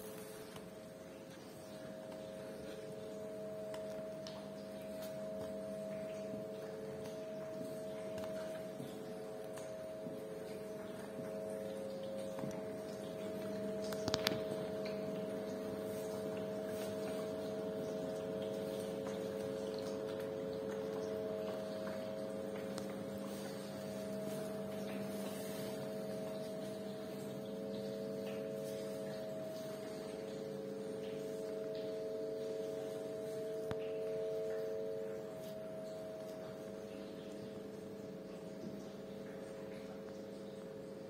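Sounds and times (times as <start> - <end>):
humidifier humming: 0.0 - 41.0.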